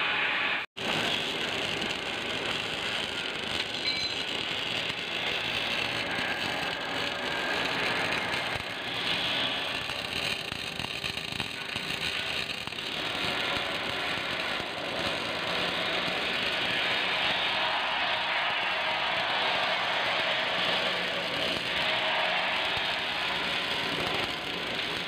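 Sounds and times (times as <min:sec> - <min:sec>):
welding arc crackling: 0:00.7 - 0:25.0.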